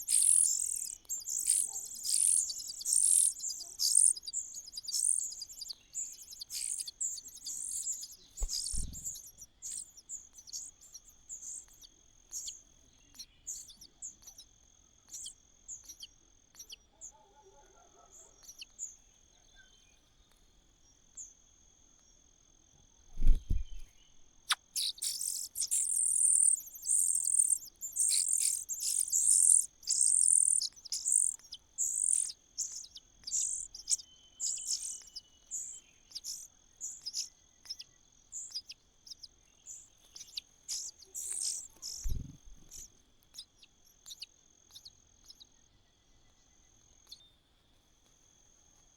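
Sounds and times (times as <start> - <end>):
high insect trill: 0.0 - 16.0, 23.3 - 47.2
nestling birds chirping: 0.0 - 21.4, 23.2 - 47.9.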